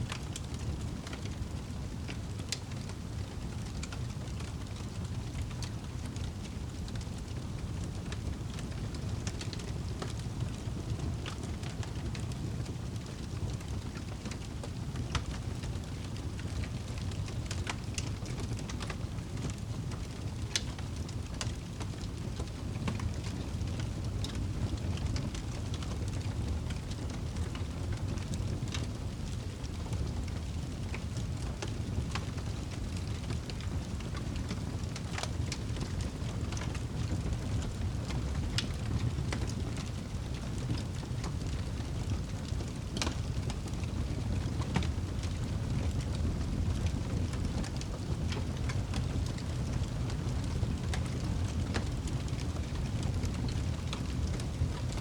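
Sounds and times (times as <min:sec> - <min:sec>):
log fire crackling: 0:00.1 - 0:55.0.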